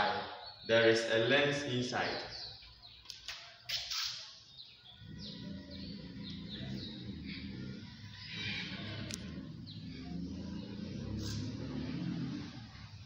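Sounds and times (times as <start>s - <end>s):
marker squeaking on a whiteboard: 2.2s - 13.0s.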